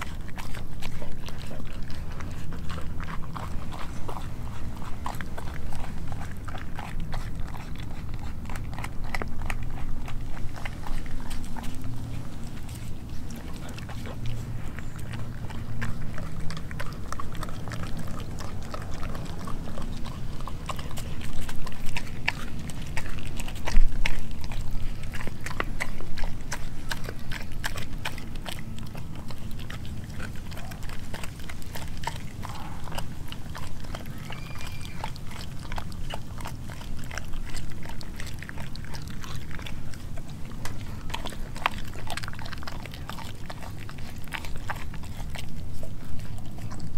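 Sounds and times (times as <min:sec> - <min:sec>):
dog chewing and gnawing: 0:00.0 - 0:46.9.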